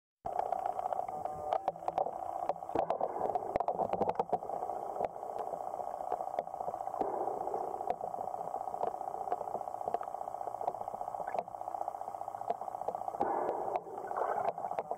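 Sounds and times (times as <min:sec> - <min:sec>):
sharp underwater clicks: 0:00.3 - 0:11.7, 0:12.4 - 0:14.9
muffled underwater hiss: 0:00.3 - 0:14.9.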